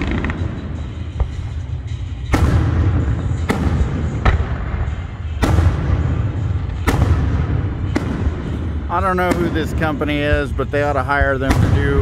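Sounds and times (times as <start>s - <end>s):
low fireworks rumble: 0.0s - 12.0s.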